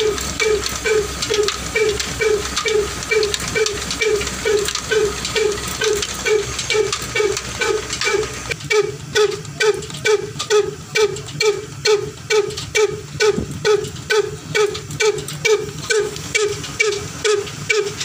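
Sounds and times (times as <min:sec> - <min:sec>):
diesel engine running slowly: 0:00.0 - 0:18.0.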